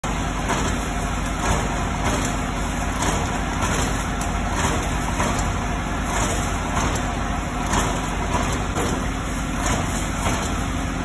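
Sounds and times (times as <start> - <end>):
machine motor hum: 0.0 - 11.0.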